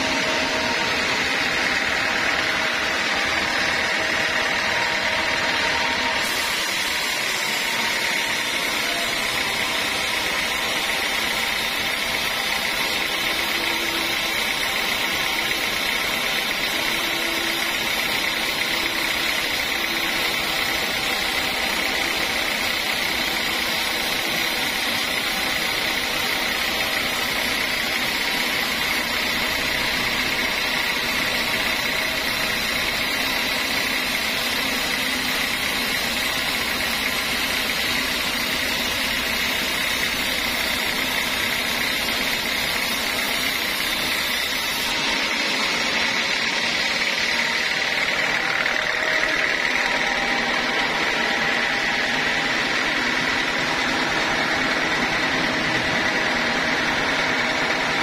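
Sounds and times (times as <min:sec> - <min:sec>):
band saw cutting wood: 0:00.0 - 0:58.0
saw blade whine: 0:00.0 - 0:58.0.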